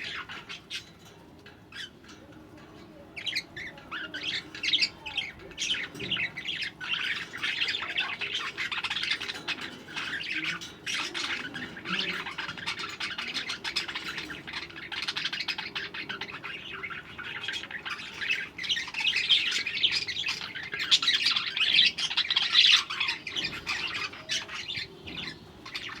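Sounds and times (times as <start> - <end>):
budgerigars chattering and squawking: 0.0 - 26.0.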